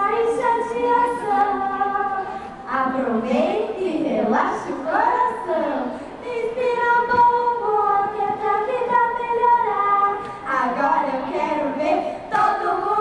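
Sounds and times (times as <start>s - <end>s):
children's choir singing: 0.0s - 2.4s, 4.9s - 13.0s.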